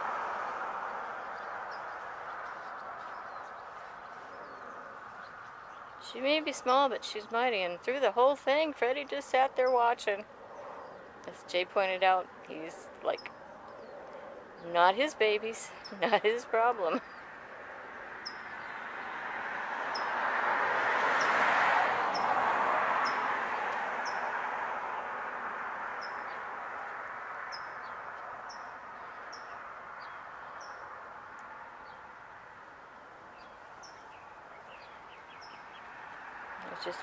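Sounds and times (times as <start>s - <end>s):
vehicle passing: 0.0s - 37.0s.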